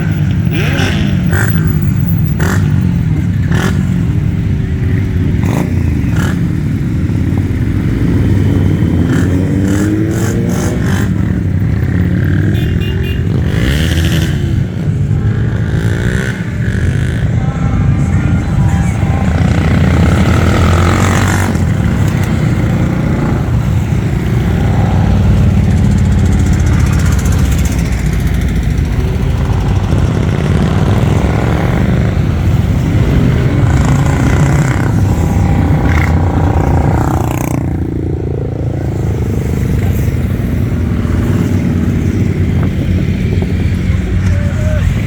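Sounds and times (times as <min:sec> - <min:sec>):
motorcycle engines running: 0:00.0 - 0:45.0
motorcycle revving: 0:00.0 - 0:45.0.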